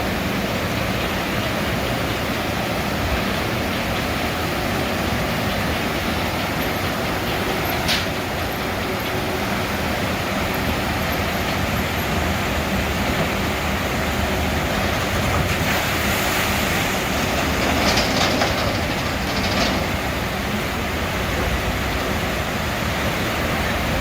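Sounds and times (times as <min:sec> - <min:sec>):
ride rumbling along track: 0:00.0 - 0:24.0.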